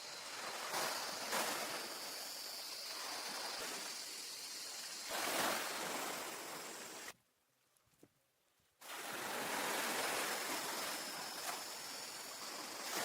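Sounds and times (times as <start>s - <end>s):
ocean waves washing on beach: 0.0s - 7.2s, 8.8s - 13.0s.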